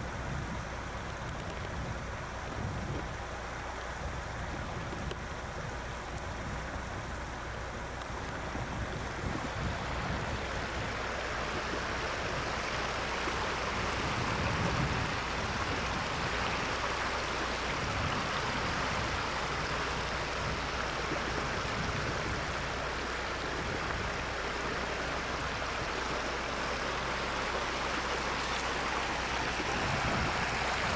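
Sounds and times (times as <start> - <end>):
river water rushing: 0.0 - 30.9
wind rumble on microphone: 0.0 - 30.9.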